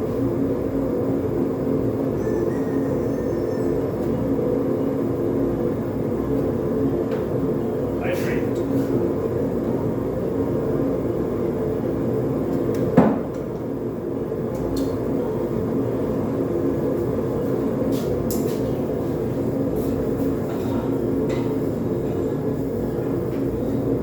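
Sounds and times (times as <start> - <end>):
forge burner roaring: 0.0 - 24.0.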